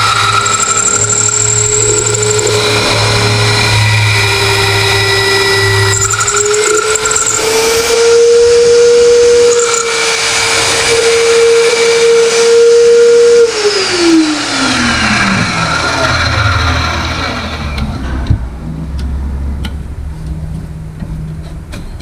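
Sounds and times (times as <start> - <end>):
magnetic drill whining: 0.0 - 18.0.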